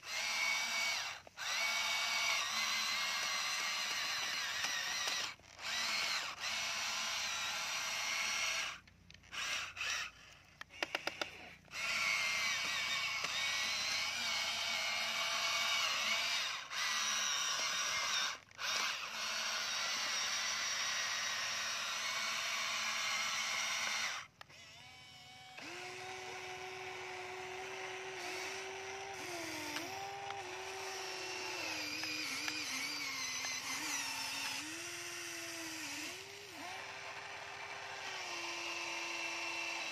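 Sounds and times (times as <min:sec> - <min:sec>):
toy excavator motors whining: 0:00.0 - 0:39.9.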